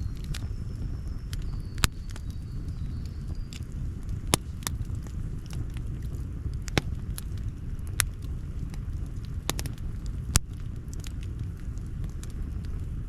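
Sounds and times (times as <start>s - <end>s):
campfire low rumble: 0.0s - 13.0s
wood popping and crackling: 0.0s - 13.0s.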